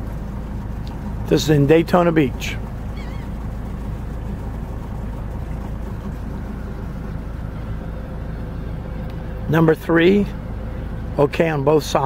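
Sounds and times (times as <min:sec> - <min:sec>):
boat engine running: 0:00.0 - 0:12.0
faint steady hum: 0:00.0 - 0:12.0.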